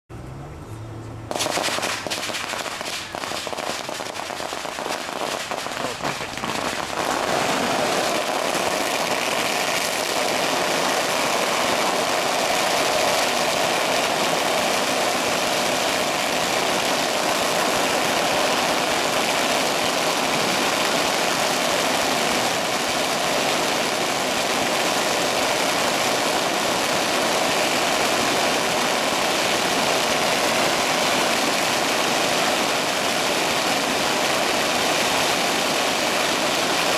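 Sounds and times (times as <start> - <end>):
firecrackers crackling: 1.3 - 36.9.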